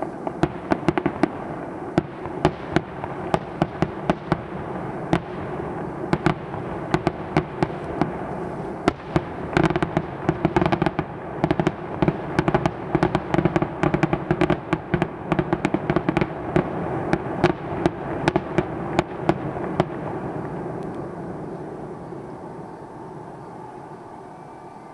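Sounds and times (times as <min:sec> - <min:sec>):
fireworks popping and crackling: 0:00.0 - 0:23.7
steady background noise: 0:00.0 - 0:24.9.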